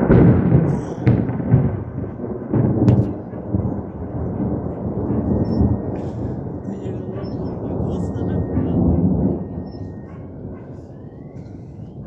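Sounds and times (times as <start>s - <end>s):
rolling thunder: 0.0s - 12.0s.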